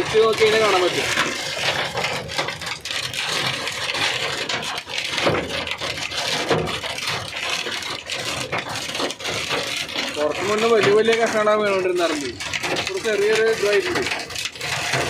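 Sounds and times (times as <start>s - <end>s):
hailstones pelting a vehicle: 0.0s - 15.0s
heavy rain: 0.0s - 15.0s.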